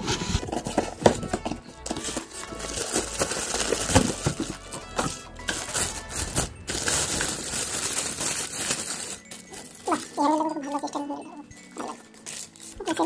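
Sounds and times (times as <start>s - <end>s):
background music: 0.0s - 13.0s
plastic wrapping crinkling: 0.0s - 13.0s.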